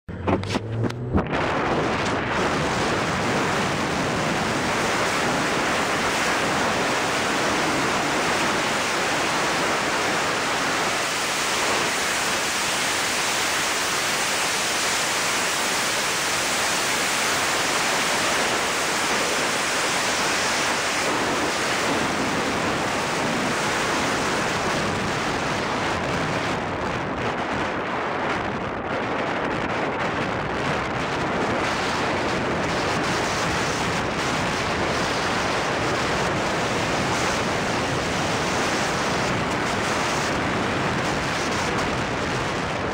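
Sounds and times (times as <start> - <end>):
road and tyre noise: 0.0 - 42.9
wind noise on microphone: 0.1 - 42.9.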